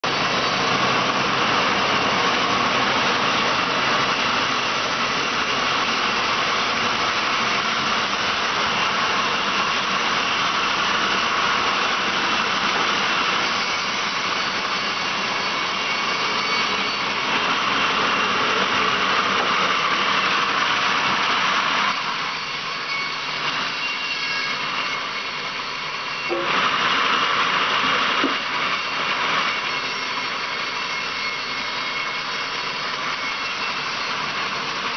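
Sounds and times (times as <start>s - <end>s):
band saw cutting wood: 0.0s - 34.9s.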